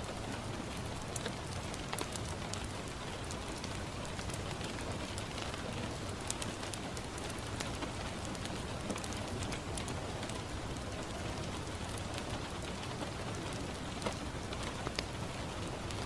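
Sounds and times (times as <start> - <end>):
rain on a window: 0.0 - 16.0
wood fire crackling and popping: 0.0 - 16.0.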